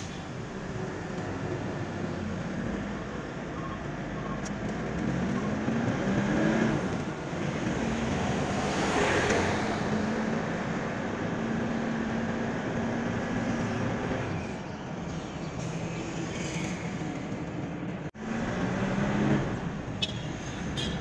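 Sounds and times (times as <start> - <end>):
road noise inside car: 0.0 - 21.0.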